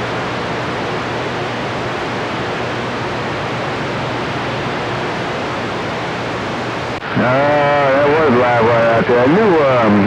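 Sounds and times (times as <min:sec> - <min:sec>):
radio static rush: 0:00.0 - 0:10.0.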